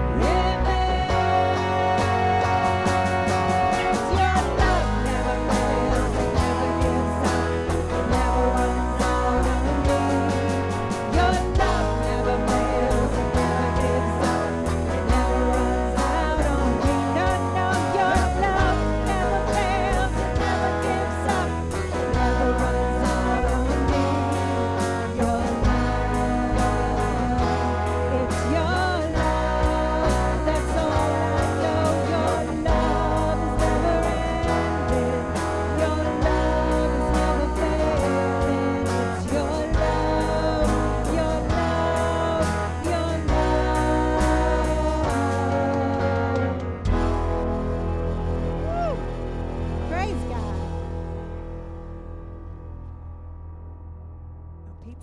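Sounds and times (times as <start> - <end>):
person singing: 0.0 - 48.0
bass line: 0.0 - 55.0
electric guitar: 0.0 - 55.0.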